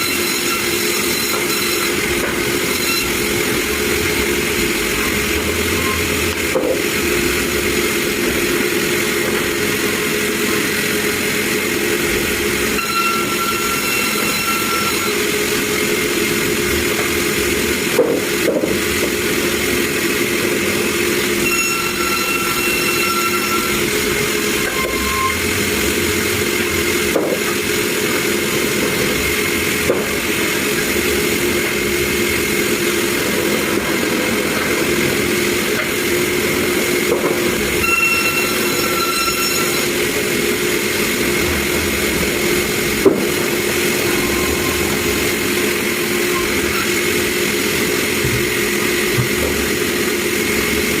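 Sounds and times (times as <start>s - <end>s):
sawmill machinery droning: 0.0s - 51.0s.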